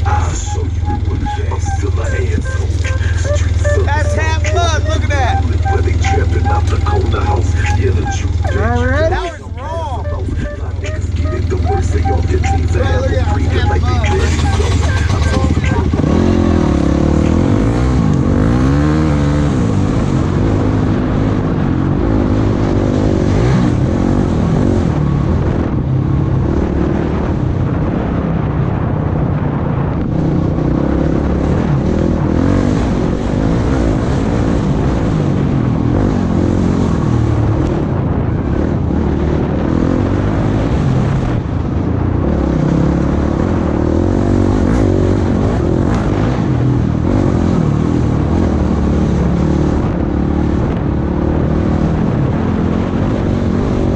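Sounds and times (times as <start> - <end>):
off-road vehicle engine revving: 0.0 - 28.9, 29.6 - 53.9.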